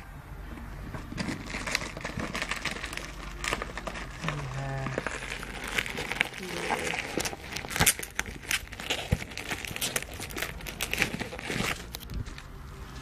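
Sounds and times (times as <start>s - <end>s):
packaging crinkling and rustling: 0.9s - 12.5s.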